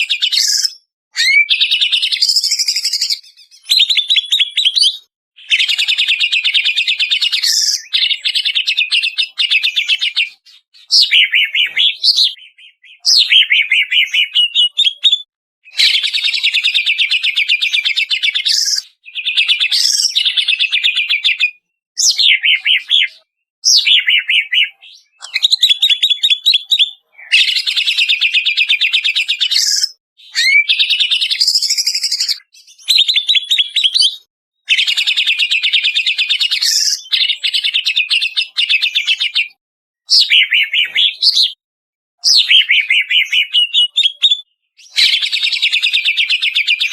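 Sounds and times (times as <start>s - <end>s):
bird singing fast trills: 0.0s - 39.4s, 40.1s - 41.6s, 42.2s - 46.9s.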